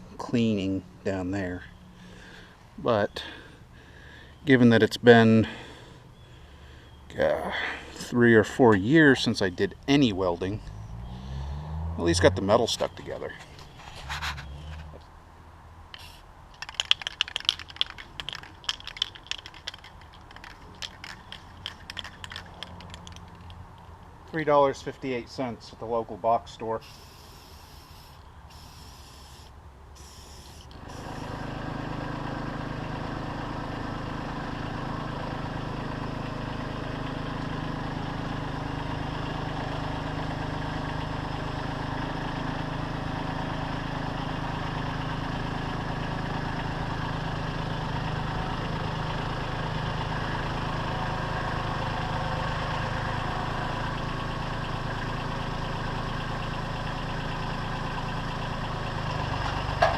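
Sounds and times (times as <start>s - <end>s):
engine idling: 0.0s - 15.1s, 16.0s - 59.9s.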